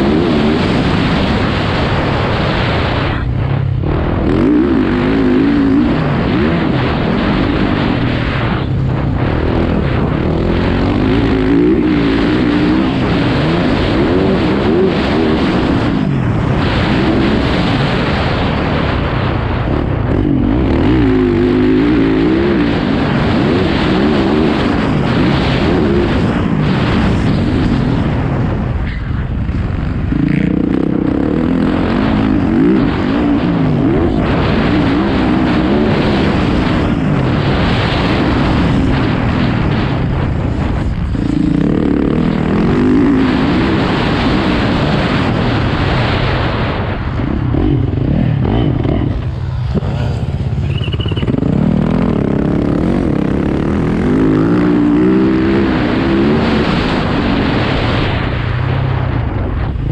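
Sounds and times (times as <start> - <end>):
dirt bike engine revving: 0.0 - 58.8
wind rushing over microphone: 0.0 - 59.9.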